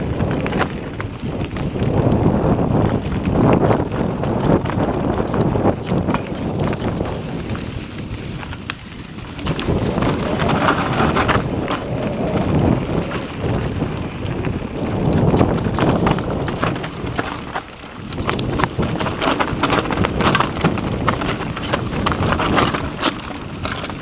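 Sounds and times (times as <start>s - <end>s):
tyres rumbling over dirt: 0.0s - 24.0s
wind buffeting microphone: 0.0s - 24.0s.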